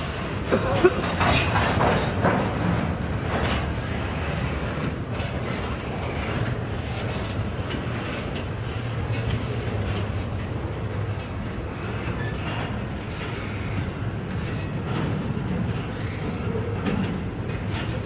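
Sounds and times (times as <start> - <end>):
freight train rumbling: 0.0 - 18.0
wheels clicking on rails: 0.0 - 18.0.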